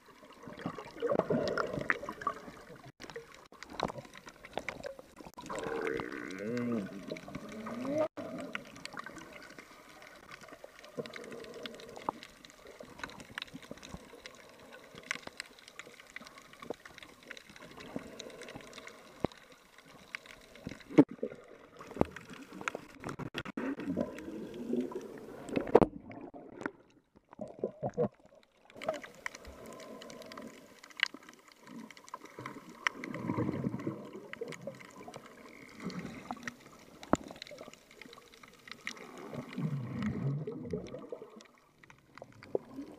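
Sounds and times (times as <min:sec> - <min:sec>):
underwater gurgling and rushing water: 0:00.0 - 0:42.9.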